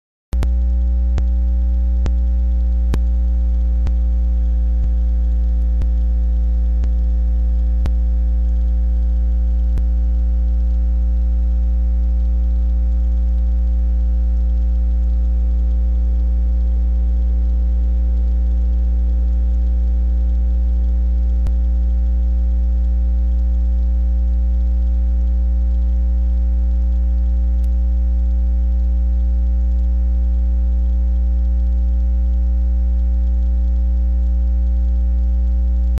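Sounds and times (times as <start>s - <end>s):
electrical mains hum: 0.3s - 36.0s
faint ticks: 0.4s - 36.0s.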